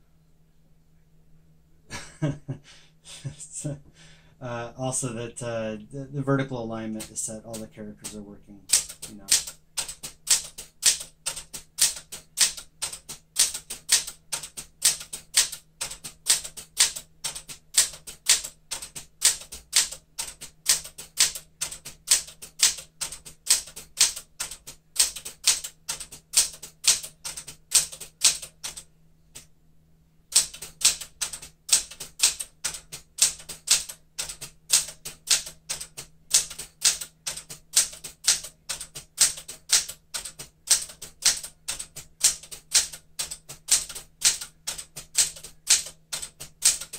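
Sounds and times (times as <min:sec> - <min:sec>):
manual typewriter typing: 0:06.6 - 0:29.4, 0:30.3 - 0:46.9.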